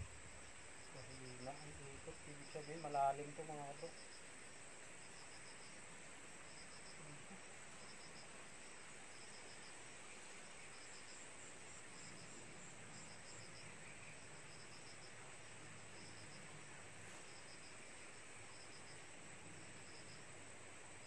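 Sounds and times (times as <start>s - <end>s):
crickets chirping: 0.0s - 21.0s
high-pitched hiss: 0.0s - 21.0s.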